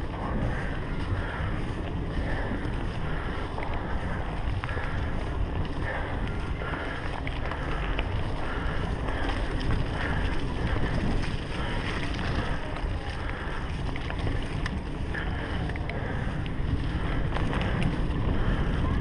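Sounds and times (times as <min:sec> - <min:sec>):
bike clicks and rattles: 0:00.0 - 0:19.0
tyres rolling over dirt and leaves: 0:00.0 - 0:19.0
wind buffeting microphone: 0:00.0 - 0:19.0.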